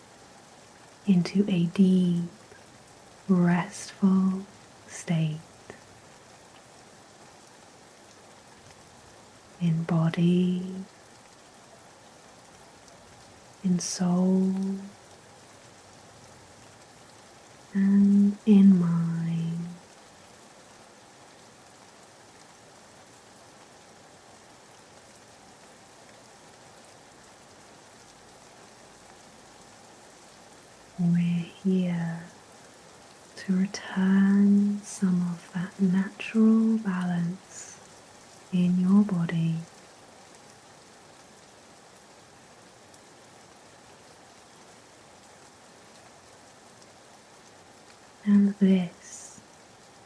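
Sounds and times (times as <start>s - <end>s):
soft rain falling: 0.0s - 50.0s.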